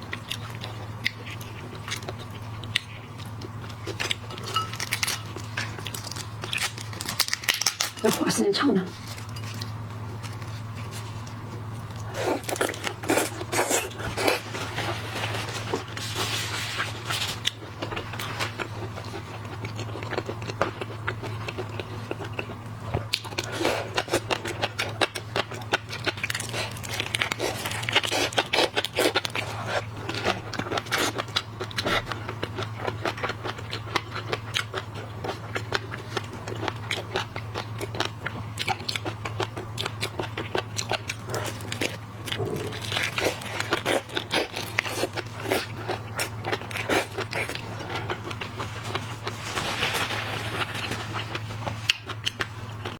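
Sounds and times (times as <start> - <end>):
chewing: 0.0 - 8.2, 8.9 - 52.9
crunching shellfish shells: 0.0 - 8.3, 9.0 - 52.9
steady low hum: 0.0 - 52.9.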